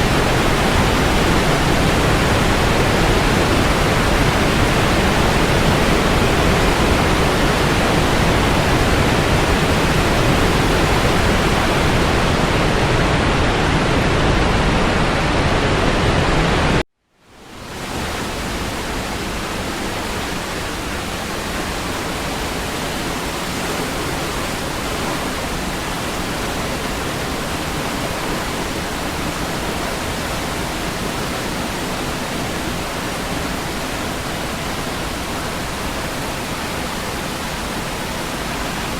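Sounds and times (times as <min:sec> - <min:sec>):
waterfall rushing: 0:00.0 - 0:16.8, 0:17.4 - 0:38.9.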